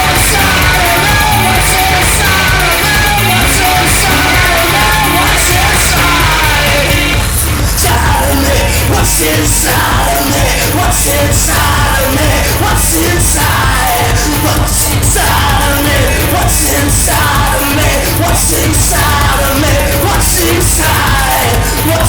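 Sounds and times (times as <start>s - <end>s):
rock music with vocals: 0.0s - 22.0s.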